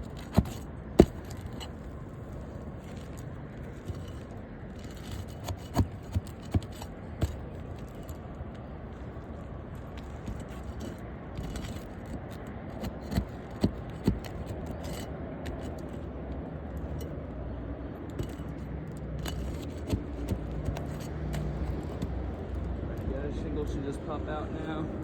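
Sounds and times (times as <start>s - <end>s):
tools scraping on roof shingles: 0.0s - 17.2s, 18.0s - 23.0s.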